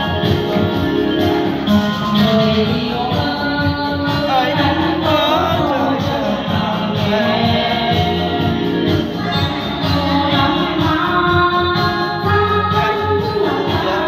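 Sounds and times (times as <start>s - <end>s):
backing track with steady beat: 0.0s - 14.0s
woman singing into microphone: 1.9s - 8.7s, 9.3s - 14.0s.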